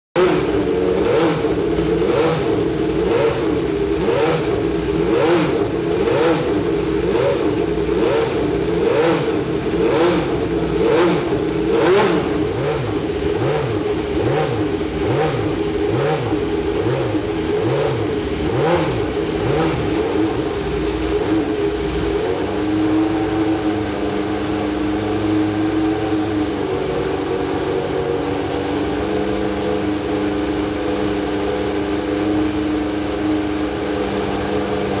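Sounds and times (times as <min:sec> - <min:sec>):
engine idling unevenly: 0:00.2 - 0:35.0
racing car engine revving: 0:00.2 - 0:35.0.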